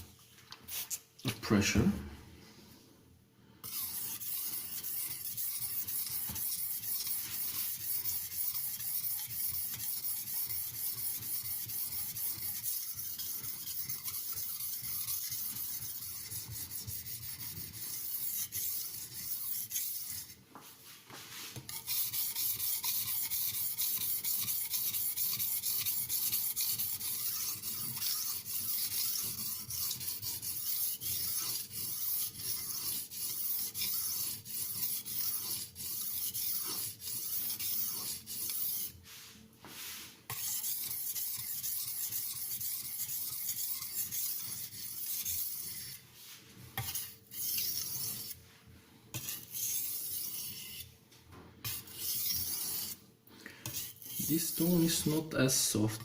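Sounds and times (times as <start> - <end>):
knife scraping on whetstone: 3.6 - 20.4, 21.1 - 48.4, 49.1 - 51.0, 51.6 - 53.0, 53.6 - 55.3.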